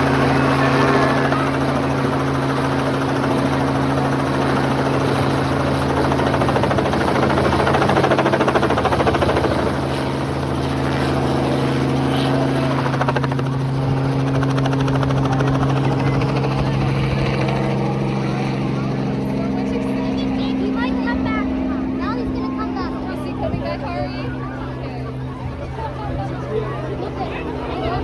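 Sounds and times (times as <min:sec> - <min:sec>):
helicopter flying: 0:00.0 - 0:28.0.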